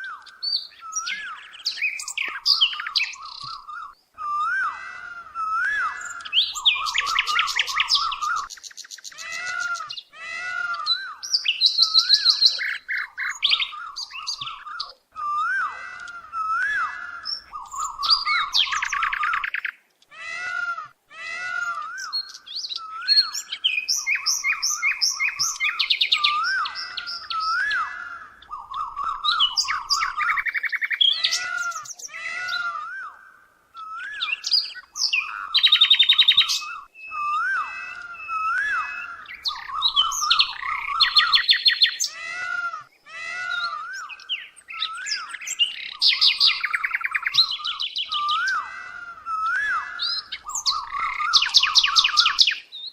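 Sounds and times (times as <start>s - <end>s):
birdsong chirps and trills: 0.0s - 52.9s.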